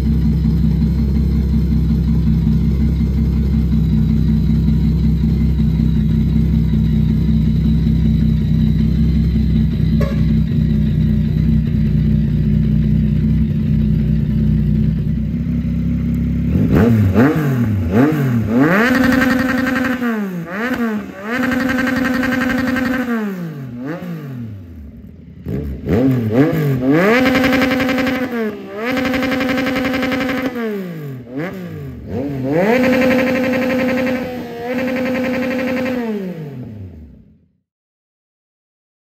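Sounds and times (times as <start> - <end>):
motorcycle engine revving: 0.0 - 37.5.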